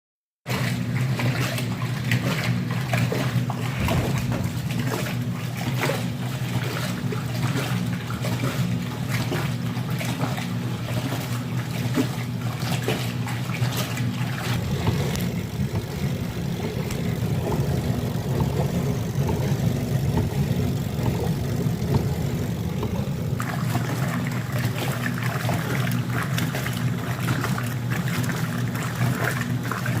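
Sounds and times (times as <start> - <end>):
water and laundry sloshing: 0.4 - 30.0
washing machine motor hum: 0.5 - 30.0.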